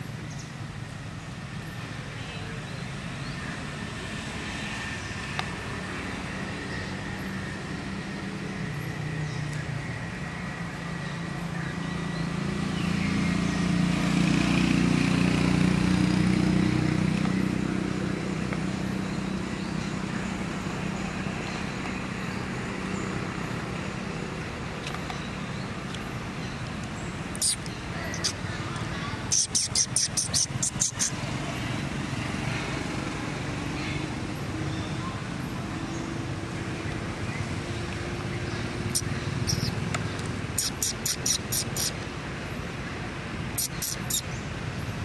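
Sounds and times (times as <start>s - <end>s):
outdoor background noise: 0.0s - 45.0s
vehicle engine rumbling past: 2.8s - 42.6s.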